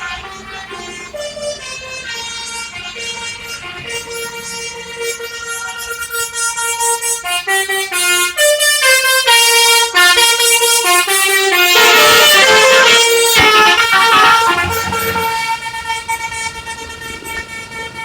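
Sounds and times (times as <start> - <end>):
musical bus horn melody: 0.0 - 18.0.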